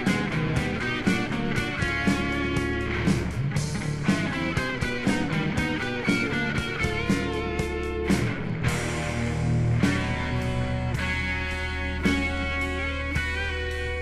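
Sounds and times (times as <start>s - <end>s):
bass guitar: 0.0s - 14.0s
electric guitar: 0.0s - 14.0s
steady drum beat: 0.0s - 14.0s.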